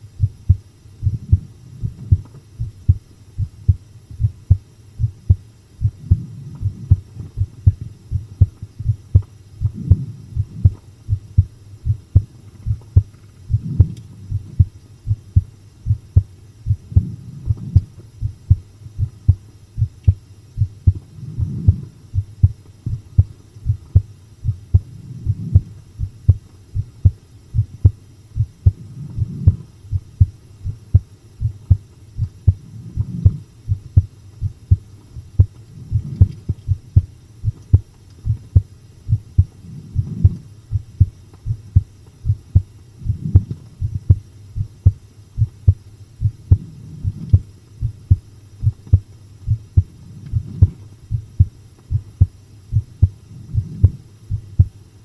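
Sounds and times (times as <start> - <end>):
heartbeat thumps: 0.0 - 54.8.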